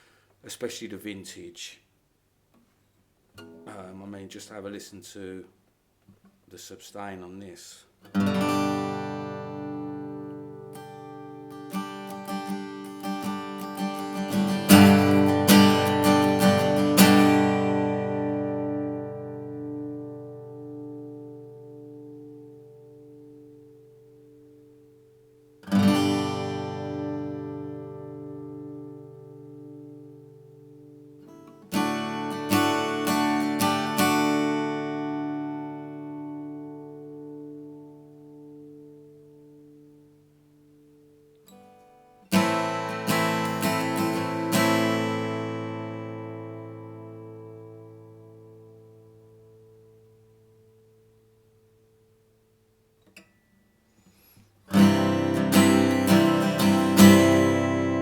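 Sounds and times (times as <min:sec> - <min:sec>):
acoustic guitar chords strummed: 0:03.4 - 0:04.0, 0:08.1 - 0:58.0.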